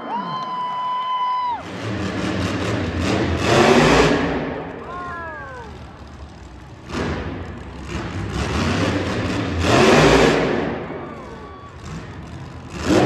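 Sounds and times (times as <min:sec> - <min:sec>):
monster truck engine revving: 0:01.6 - 0:13.0.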